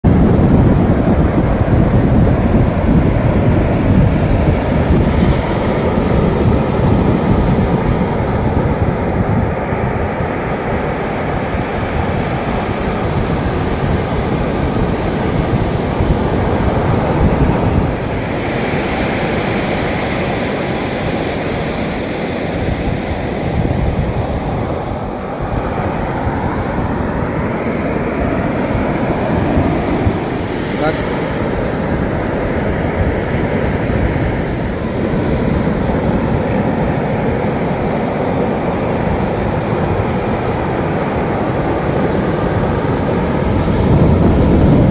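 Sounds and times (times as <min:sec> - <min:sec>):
ocean surf breaking: 0:00.0 - 0:44.9
wind buffeting microphone: 0:00.0 - 0:44.9.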